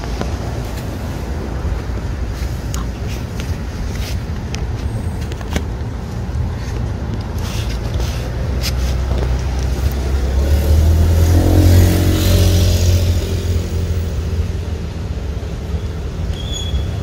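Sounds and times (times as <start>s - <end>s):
vehicle engine rumble passing: 0.0s - 17.0s.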